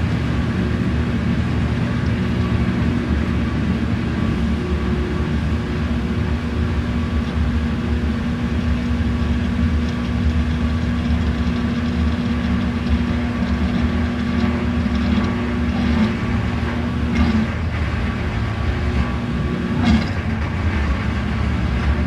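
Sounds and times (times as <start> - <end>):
washing machine running: 0.0 - 22.0.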